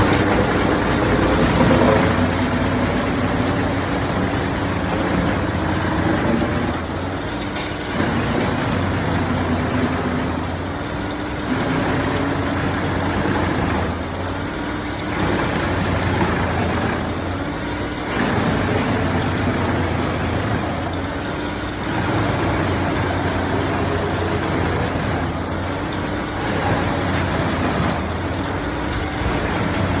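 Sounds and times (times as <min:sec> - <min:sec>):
wood chipper engine: 0:00.0 - 0:30.0
wood grinding in chipper: 0:00.0 - 0:30.0.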